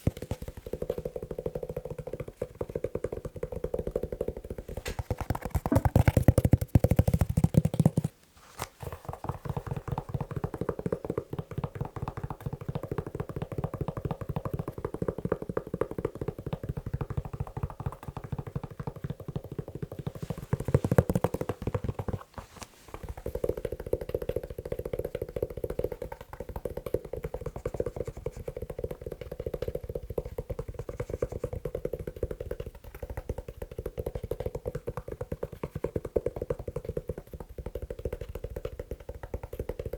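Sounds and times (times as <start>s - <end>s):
fast tapping on leather shoe: 0.0s - 8.2s, 8.8s - 39.9s.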